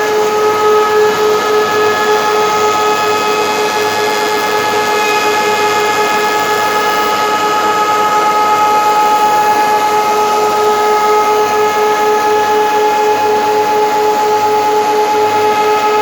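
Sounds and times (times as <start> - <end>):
spinning cutterheads whining: 0.0 - 16.0.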